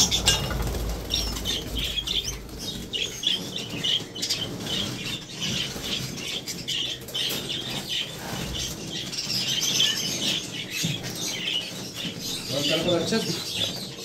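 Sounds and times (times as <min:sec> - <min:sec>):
budgerigars chattering and chirping: 0:00.0 - 0:14.0
wings fluttering: 0:00.0 - 0:14.0.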